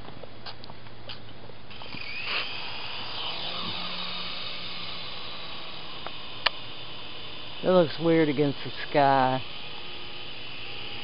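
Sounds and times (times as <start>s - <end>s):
rc helicopter motor whining: 1.7s - 11.0s.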